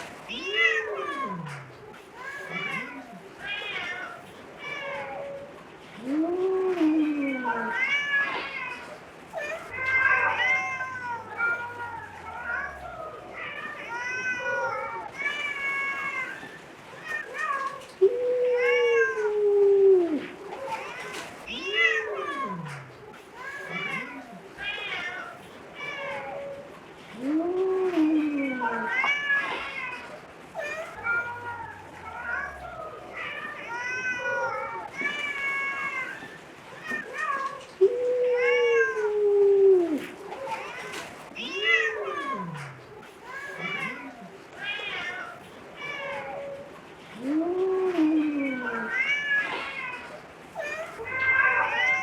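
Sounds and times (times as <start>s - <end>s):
cat meowing: 0.2s - 52.0s.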